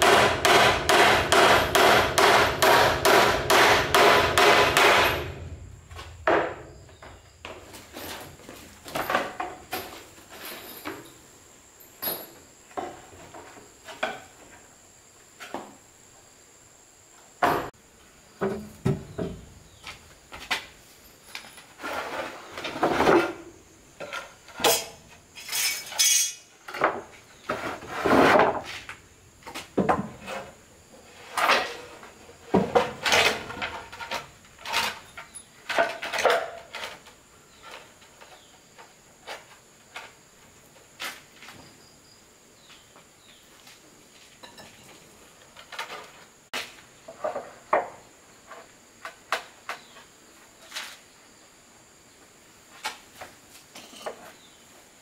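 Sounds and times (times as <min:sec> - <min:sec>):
high insect trill: 0:01.5 - 0:27.9, 0:28.6 - 0:54.9.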